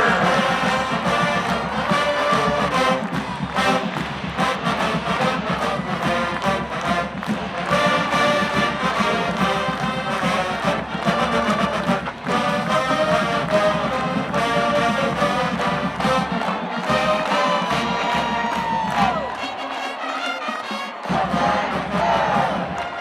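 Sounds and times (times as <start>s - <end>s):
steady drum beat: 0.0s - 19.4s, 20.5s - 23.0s
marching band playing: 0.0s - 23.0s.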